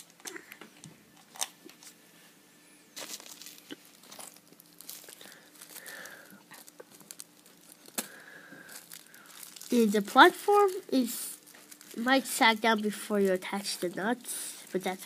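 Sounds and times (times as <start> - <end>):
plastic bag rustling: 2.9 - 15.0.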